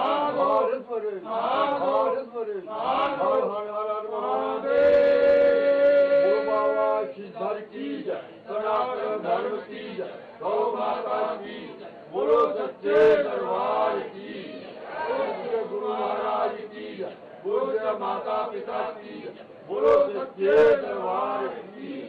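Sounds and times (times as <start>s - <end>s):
men chanting a prayer: 0.0s - 22.0s.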